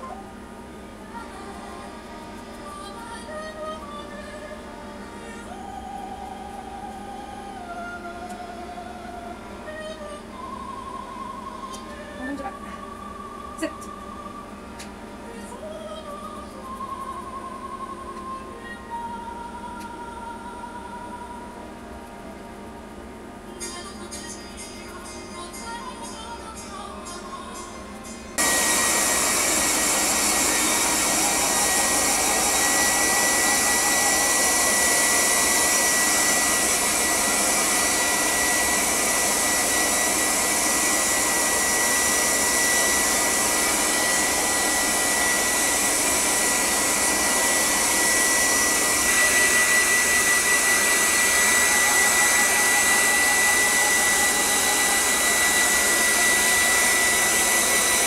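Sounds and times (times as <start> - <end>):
hair dryer blowing with high whine: 0.0 - 58.0.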